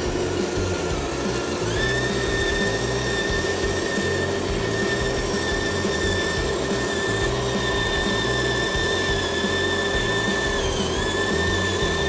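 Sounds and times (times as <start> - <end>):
toy truck motor whining: 0.0 - 12.0.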